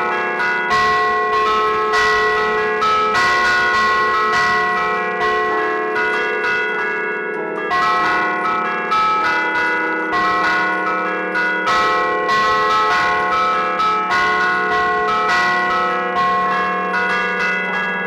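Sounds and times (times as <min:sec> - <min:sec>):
hammers striking church bells: 0:00.0 - 0:18.0.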